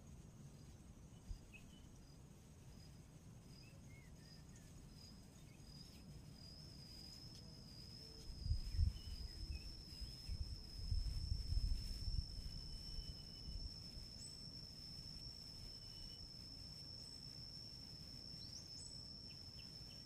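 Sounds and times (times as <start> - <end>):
insects droning: 0.0 - 20.0
faint bird chirps: 0.4 - 20.0.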